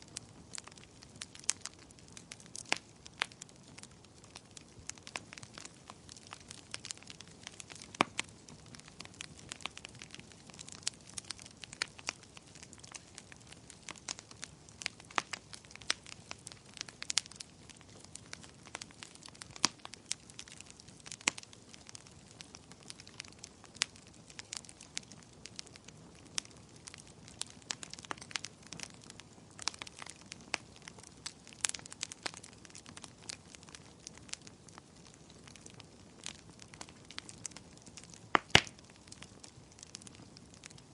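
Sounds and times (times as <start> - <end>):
fire crackling in a fireplace: 0.0 - 40.9
soft steady hiss: 0.0 - 40.9.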